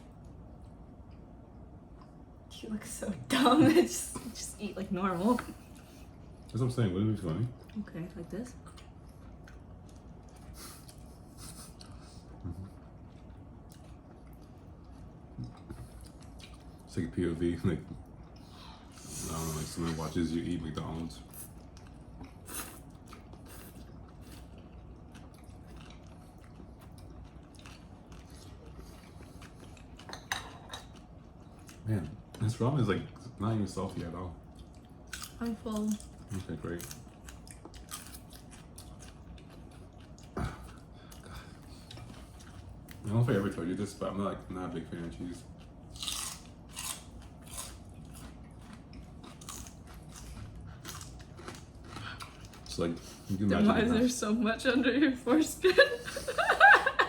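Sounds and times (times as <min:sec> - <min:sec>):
faint chewing: 0:05.3 - 0:17.1, 0:17.7 - 0:43.6, 0:44.8 - 0:53.4.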